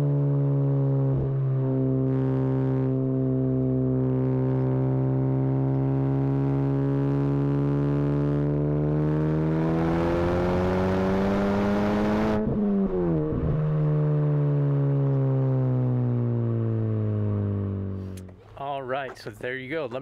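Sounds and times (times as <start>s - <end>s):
car exhaust droning and revving: 0.0s - 18.6s
turbo whine: 0.0s - 19.2s.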